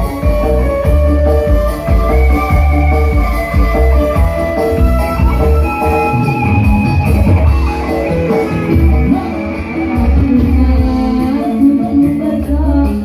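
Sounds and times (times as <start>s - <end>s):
drums and bass beat: 0.0s - 13.0s
keyboard melody: 0.0s - 13.0s.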